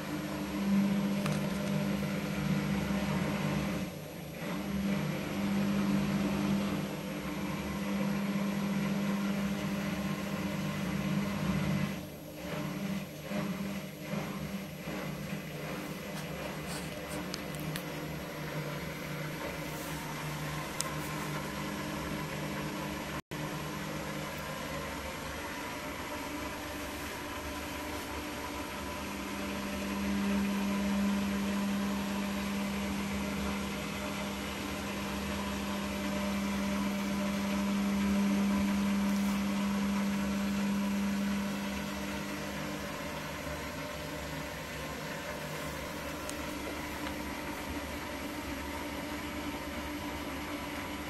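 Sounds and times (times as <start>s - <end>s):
washing machine motor hum: 0.0s - 51.0s.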